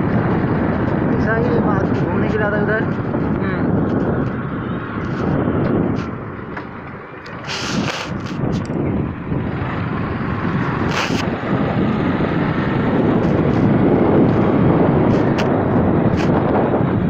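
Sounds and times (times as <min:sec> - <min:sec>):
motorcycle engine and road noise: 0:00.0 - 0:17.0
wind rushing over microphone: 0:00.0 - 0:17.0.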